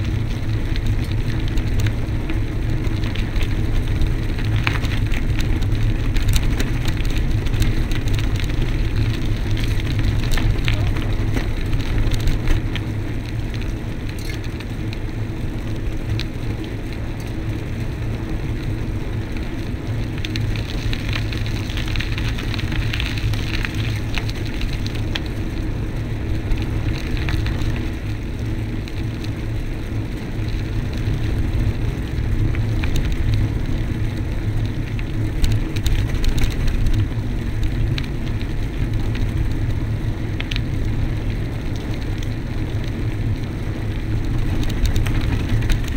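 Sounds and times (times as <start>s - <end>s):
bicycle tyres rumbling on gravel: 0.0s - 45.9s
grainy crackle: 0.0s - 45.9s.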